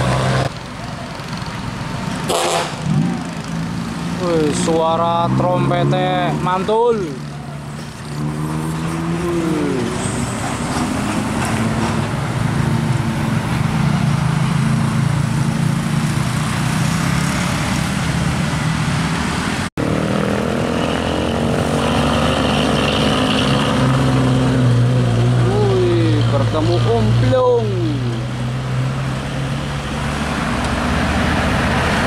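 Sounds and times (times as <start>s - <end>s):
diesel truck engines running: 0.0s - 32.0s
road traffic: 0.0s - 32.0s.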